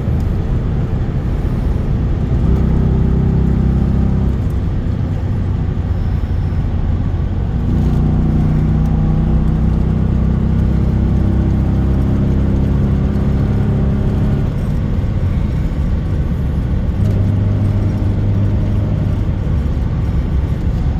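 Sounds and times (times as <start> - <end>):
car engine running: 0.0 - 20.9.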